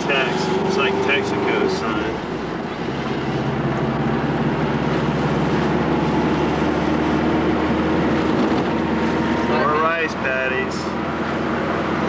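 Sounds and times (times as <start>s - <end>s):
road noise: 0.0s - 12.0s
vehicle engine hum: 0.0s - 12.0s.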